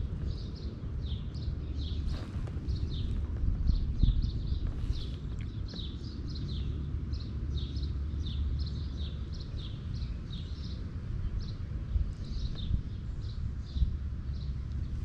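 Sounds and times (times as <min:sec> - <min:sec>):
birds chirping: 0:00.0 - 0:15.0
wind rumble on microphone: 0:00.0 - 0:15.0.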